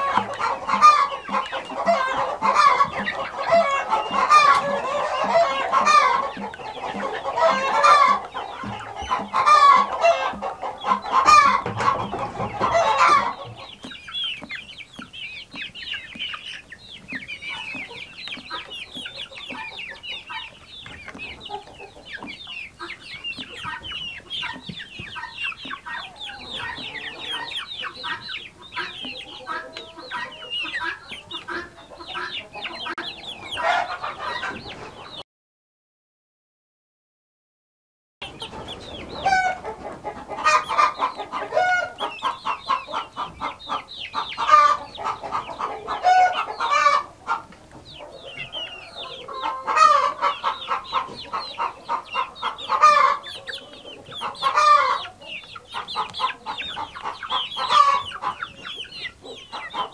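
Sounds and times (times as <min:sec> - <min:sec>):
chickens clucking: 0:00.0 - 0:35.2, 0:38.2 - 0:59.9
high-pitched chicken chatter: 0:00.0 - 0:35.2, 0:38.2 - 0:59.9.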